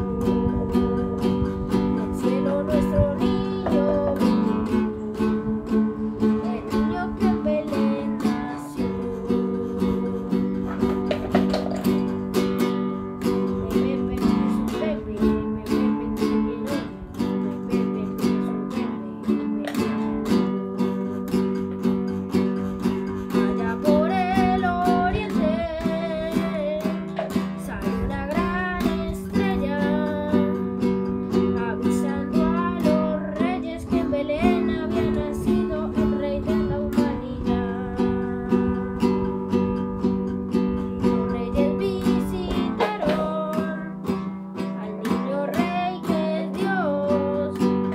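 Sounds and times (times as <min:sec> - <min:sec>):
acoustic guitar strumming: 0:00.0 - 0:47.9
boy singing: 0:00.0 - 0:47.9.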